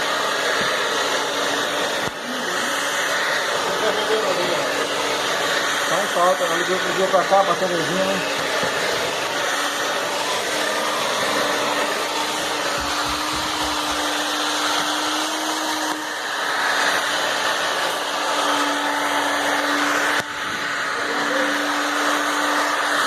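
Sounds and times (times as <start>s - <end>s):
hair dryer running: 0.0s - 23.0s.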